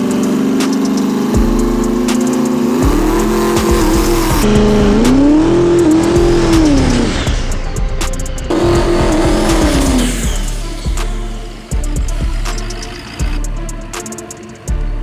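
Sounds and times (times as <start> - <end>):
race engines revving: 0.0 - 14.7
music: 0.0 - 15.0.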